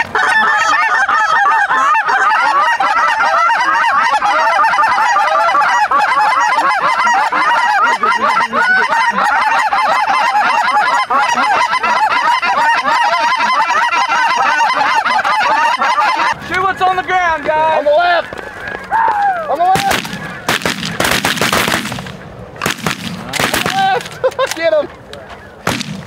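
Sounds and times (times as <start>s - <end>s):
flock of geese honking: 0.0s - 26.0s.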